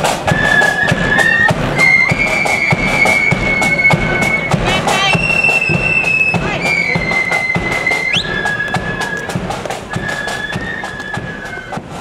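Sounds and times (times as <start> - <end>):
marching band playing: 0.0 - 12.0
steady drum beat: 0.0 - 12.0.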